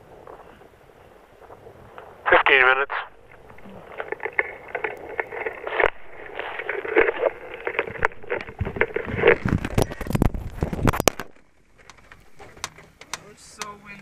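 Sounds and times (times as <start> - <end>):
crackling and scraping: 0.0 - 14.0.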